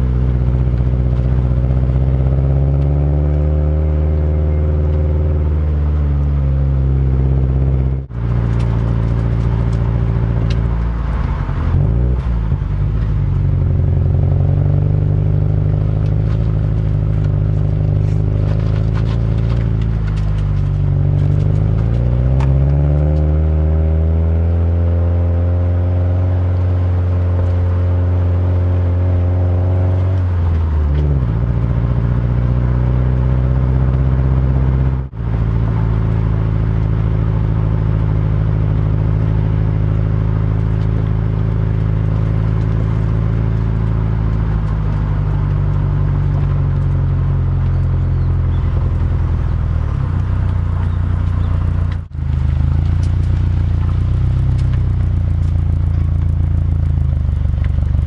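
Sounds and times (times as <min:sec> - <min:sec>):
car engine and exhaust: 0:00.0 - 0:58.0.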